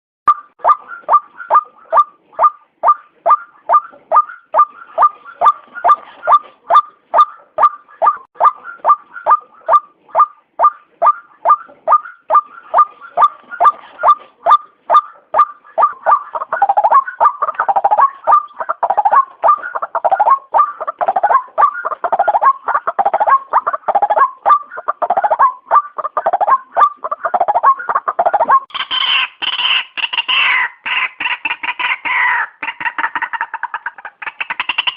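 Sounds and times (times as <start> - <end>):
waterhen calling: 0.3 - 34.9.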